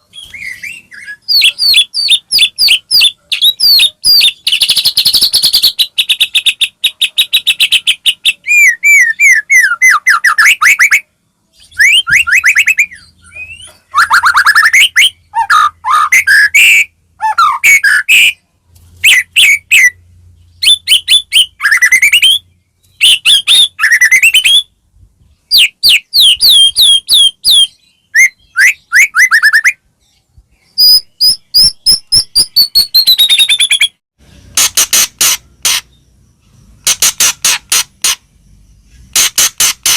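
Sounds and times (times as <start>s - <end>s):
bird singing varied song: 0.0s - 34.0s, 35.2s - 39.9s.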